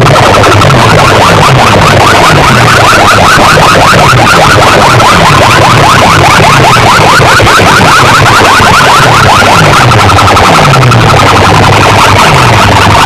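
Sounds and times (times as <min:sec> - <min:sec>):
electronic siren warble: 0:00.0 - 0:13.0
pulsing bass: 0:00.0 - 0:13.0.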